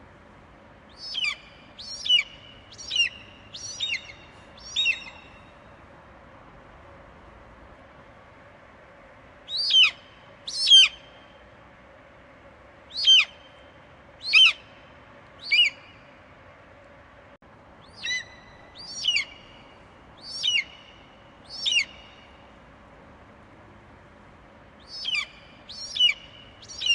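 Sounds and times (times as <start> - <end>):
faint steady hiss: 0.0 - 26.9.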